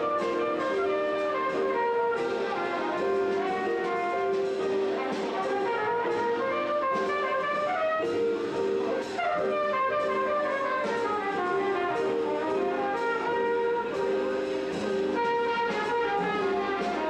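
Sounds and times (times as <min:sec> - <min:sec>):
electric keyboard: 0:00.0 - 0:17.0
trumpet melody: 0:00.0 - 0:17.0.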